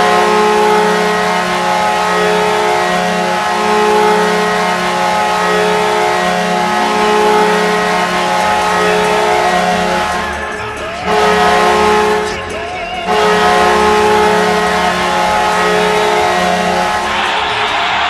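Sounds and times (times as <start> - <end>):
arena goal horn blast: 0.0 - 17.4.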